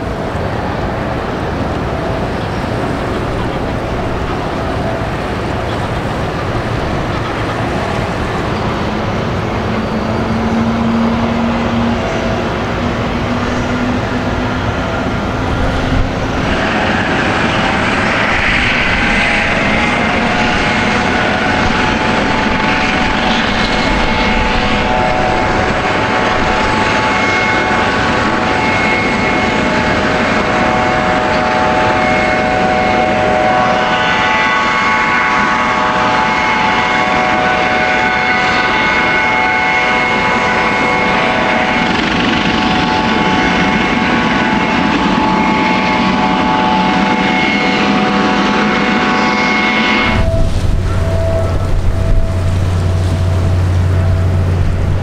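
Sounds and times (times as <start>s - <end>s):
ship engines droning: 0.0s - 55.0s
whining tones: 0.0s - 55.0s.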